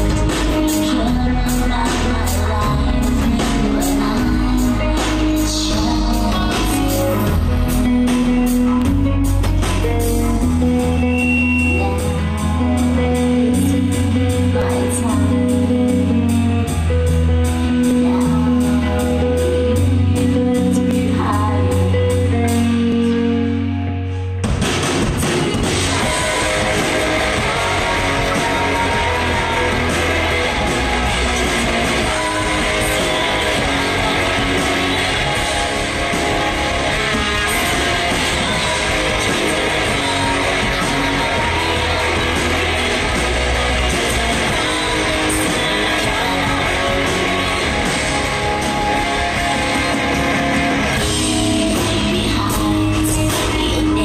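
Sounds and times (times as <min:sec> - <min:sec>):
electric guitar: 0:00.0 - 0:54.0
rock band playing loud: 0:00.0 - 0:54.0.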